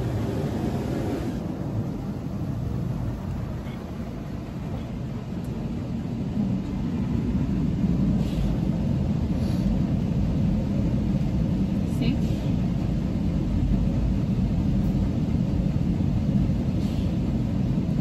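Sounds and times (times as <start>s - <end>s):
car wash spray and machinery: 0.0s - 18.0s.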